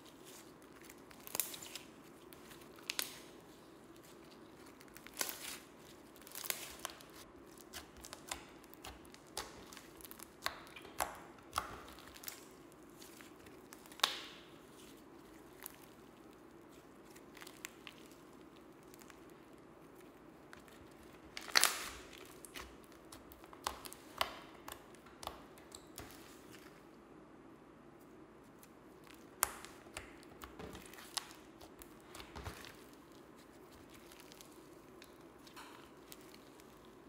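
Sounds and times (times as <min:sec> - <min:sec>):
slime squelching: 0:00.0 - 0:27.0, 0:28.4 - 0:37.0.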